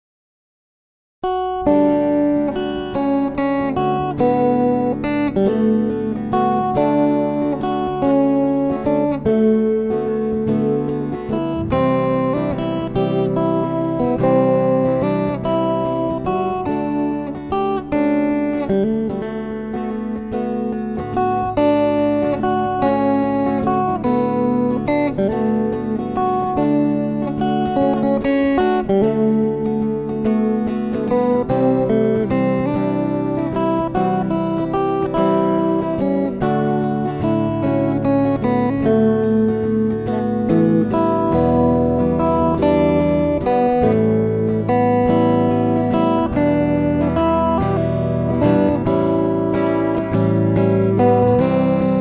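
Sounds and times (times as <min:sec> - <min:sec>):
acoustic guitar picking and strumming: 0:01.2 - 0:52.0.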